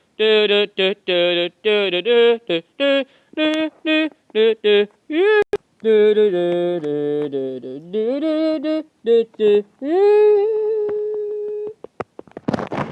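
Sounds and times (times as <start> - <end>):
person humming a tune: 0.0 - 11.9.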